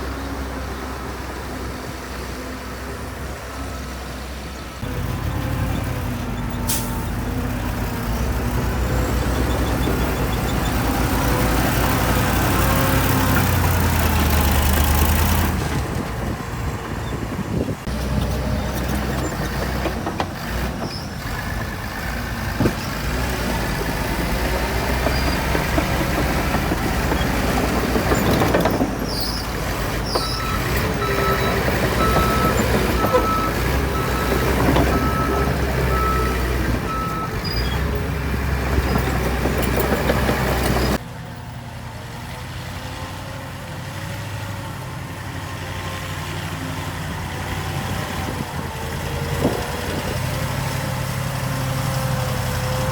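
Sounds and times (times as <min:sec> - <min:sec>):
diesel engines under load: 0:00.0 - 0:52.9.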